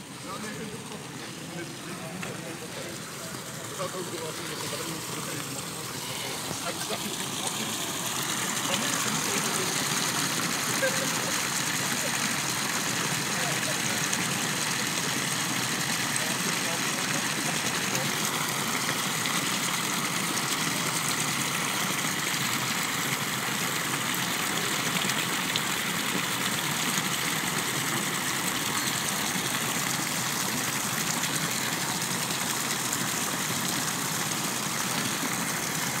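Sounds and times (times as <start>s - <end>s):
fountain water splashing into basin: 0.0s - 36.0s.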